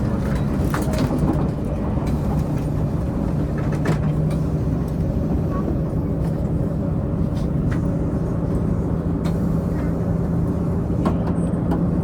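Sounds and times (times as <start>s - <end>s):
diesel engine hum: 0.0s - 12.0s
train wheels rumbling on rails: 0.0s - 12.0s.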